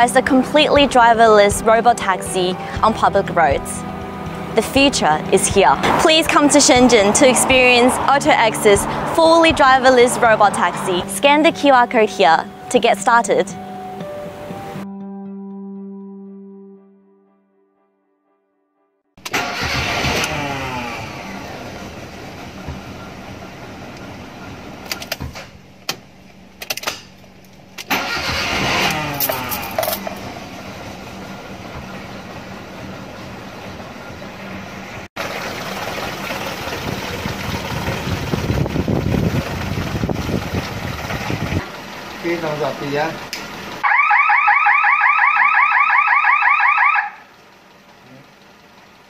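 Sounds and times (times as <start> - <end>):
car engine starting and revving: 0.0 - 14.8, 19.2 - 43.9.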